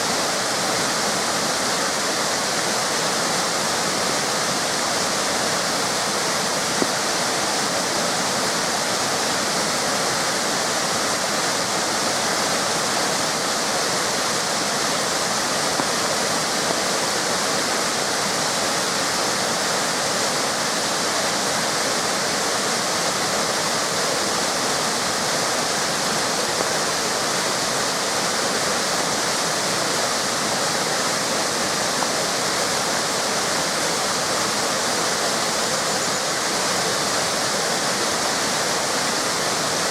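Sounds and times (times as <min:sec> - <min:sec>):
water pouring over waterfalls: 0:00.0 - 0:39.9.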